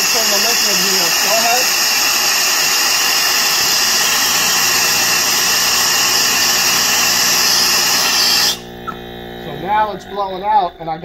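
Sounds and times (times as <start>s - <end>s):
brazing torch flame hissing: 0.0s - 9.0s
refrigerator compressor running: 0.0s - 11.0s.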